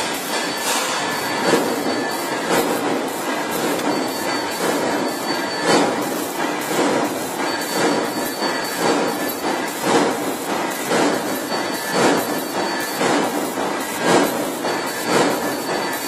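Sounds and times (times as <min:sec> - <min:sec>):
metallic knocks and clanks: 0:00.0 - 0:16.0
workshop noise: 0:00.0 - 0:16.0.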